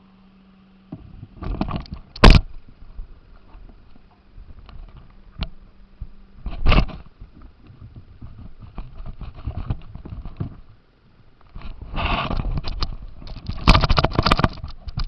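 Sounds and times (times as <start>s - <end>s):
rc car rattling over rough ground: 1.4s - 10.8s, 11.5s - 15.0s.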